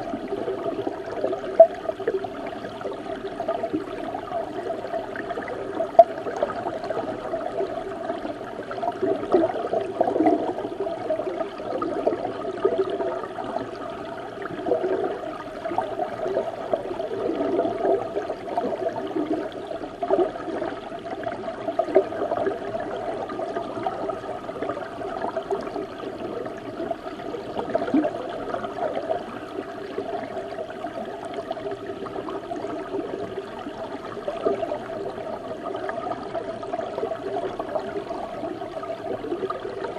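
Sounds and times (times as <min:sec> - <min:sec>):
river water rushing underwater: 0:00.0 - 0:39.9.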